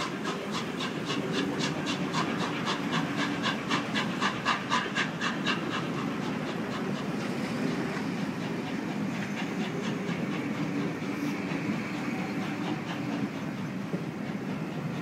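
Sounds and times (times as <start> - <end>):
steam locomotive chuffing: 0.0 - 15.0
train rumbling past: 0.0 - 15.0.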